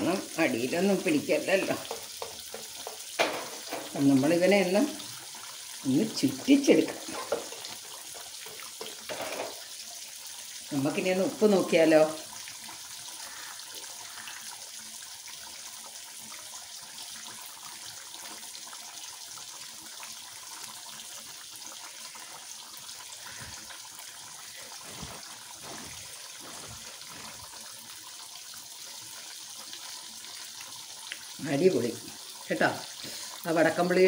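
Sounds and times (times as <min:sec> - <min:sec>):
fish sizzling in oil: 0:00.0 - 0:34.0.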